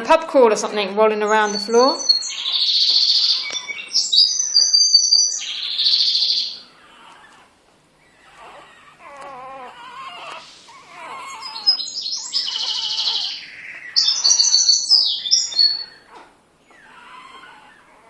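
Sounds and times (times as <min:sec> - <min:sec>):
puppies whimpering and squealing: 0:00.6 - 0:18.0.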